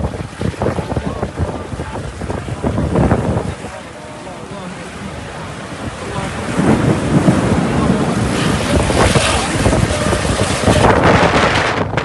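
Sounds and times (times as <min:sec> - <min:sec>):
storm wind buffeting microphone: 0:00.0 - 0:12.0.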